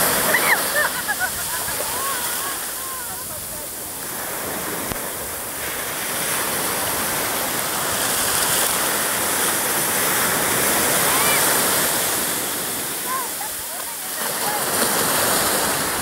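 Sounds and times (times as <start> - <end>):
sea surf breaking: 0.0 - 16.0.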